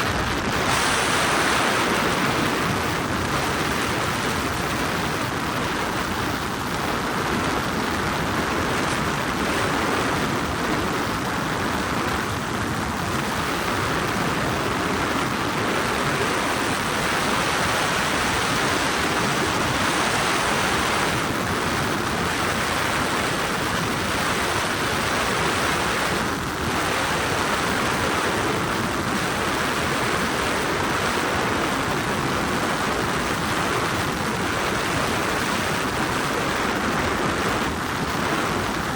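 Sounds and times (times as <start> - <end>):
helicopter cabin drone: 0.0 - 38.9.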